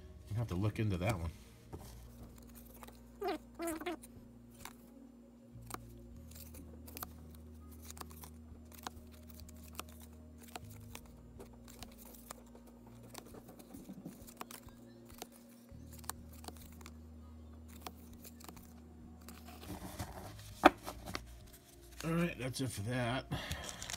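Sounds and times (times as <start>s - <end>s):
cards being leafed through: 0.4s - 5.0s, 5.6s - 22.4s, 23.3s - 23.9s.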